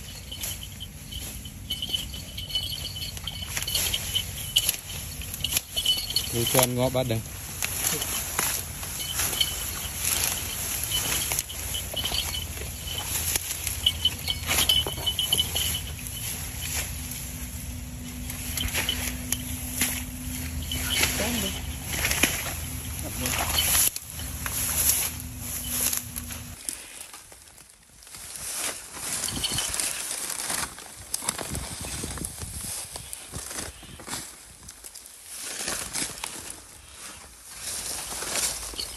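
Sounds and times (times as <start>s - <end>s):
dry grass rustling and snapping: 0.0s - 38.9s.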